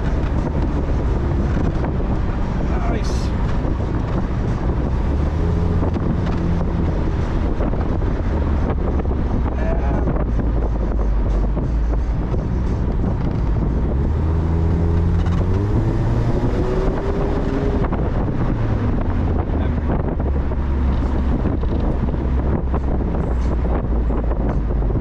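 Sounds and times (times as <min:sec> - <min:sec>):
car engine running: 0:00.0 - 0:25.0
wind buffeting microphone: 0:00.0 - 0:25.0.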